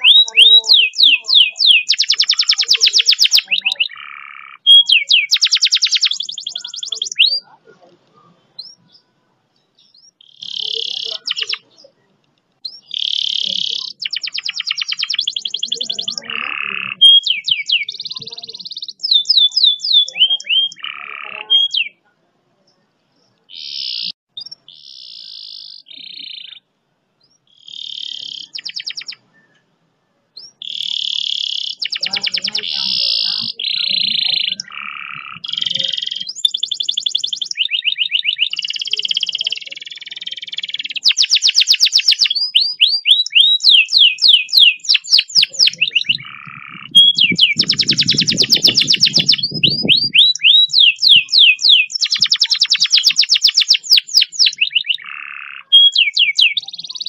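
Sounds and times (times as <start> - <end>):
canary singing: 0.0 - 29.7, 30.4 - 57.0.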